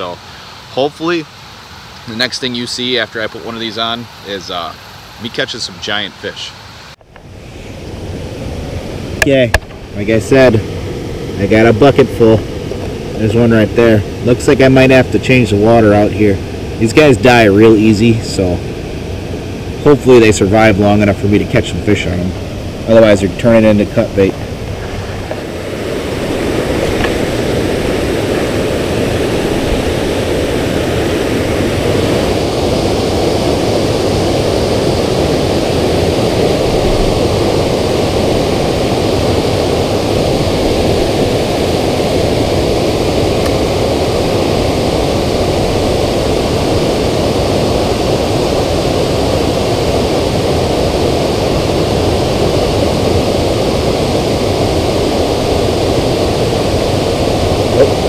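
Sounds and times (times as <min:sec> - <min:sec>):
water rushing over a dam: 0:11.4 - 0:58.0.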